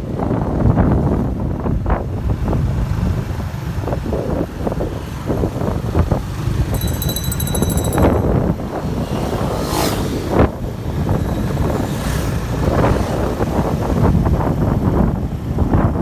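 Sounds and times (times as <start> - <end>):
motorcycle riding at speed: 0.0 - 16.0
wind buffeting microphone: 0.0 - 16.0.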